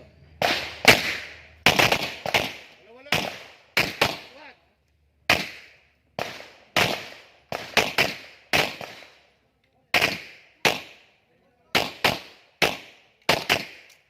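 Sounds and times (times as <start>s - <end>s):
pistol shots echoing: 0.4s - 4.4s, 5.3s - 9.2s, 9.9s - 11.1s, 11.7s - 14.0s.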